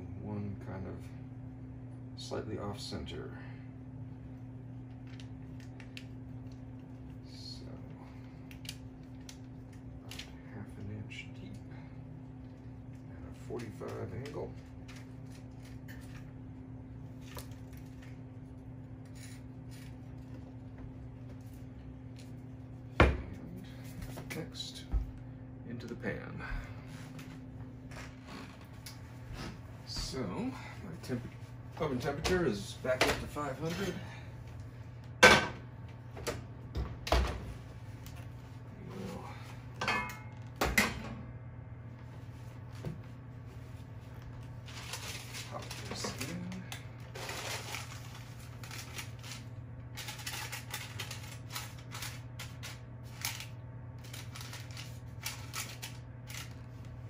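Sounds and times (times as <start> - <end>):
low appliance hum: 0.0 - 57.0.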